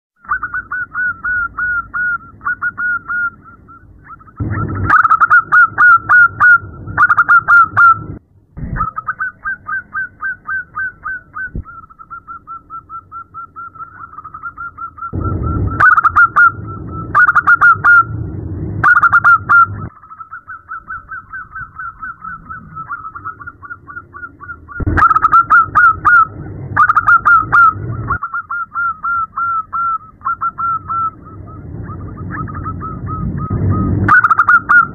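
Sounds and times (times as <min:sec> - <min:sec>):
dove calling rapid high notes: 0:00.2 - 0:34.9.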